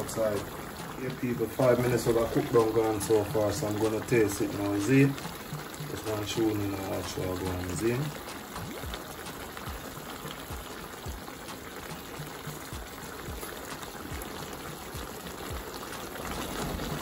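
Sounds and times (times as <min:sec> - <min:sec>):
stew bubbling in a frying pan: 0:00.0 - 0:17.0.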